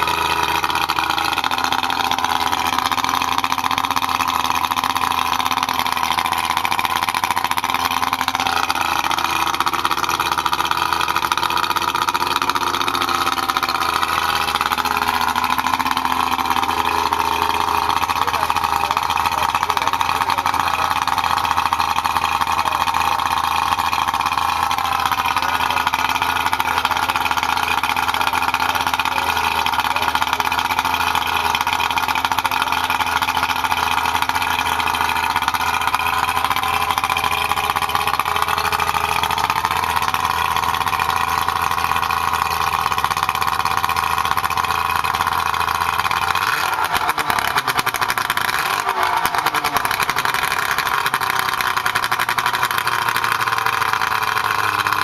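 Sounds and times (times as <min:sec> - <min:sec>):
outboard motor running: 0:00.0 - 0:55.0.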